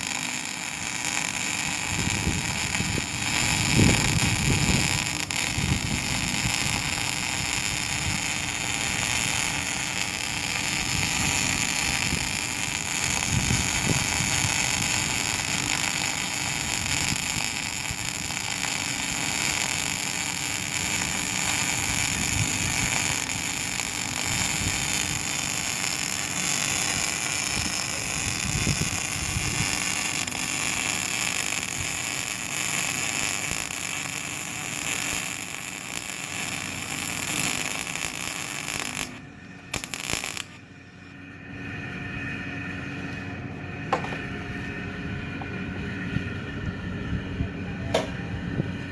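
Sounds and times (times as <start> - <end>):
welding arc sizzling: 0.0 - 40.6.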